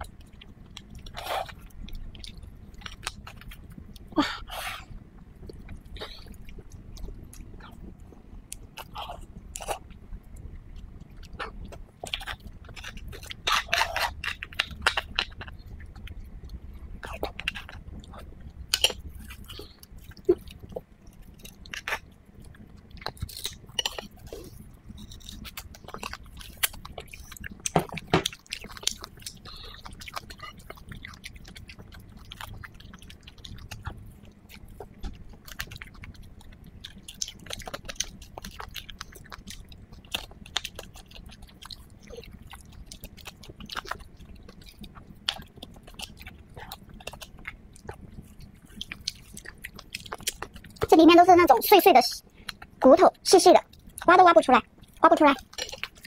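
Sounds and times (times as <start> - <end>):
person chewing: 0.1 - 56.0.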